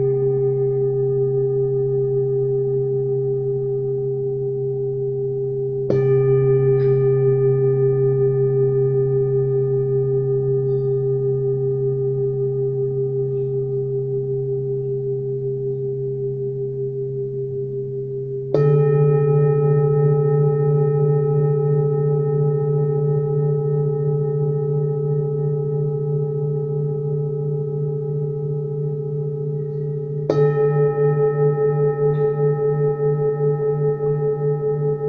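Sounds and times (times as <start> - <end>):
singing bowl ringing: 0.0 - 35.0.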